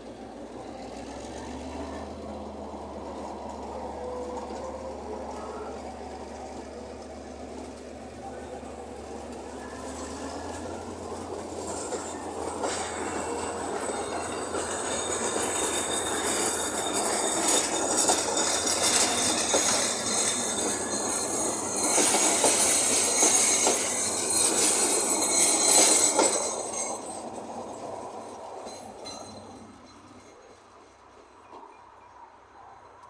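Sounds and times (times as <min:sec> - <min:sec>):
wheels clacking over rail joints: 0:00.0 - 0:33.0
train wheels squealing: 0:00.6 - 0:33.0.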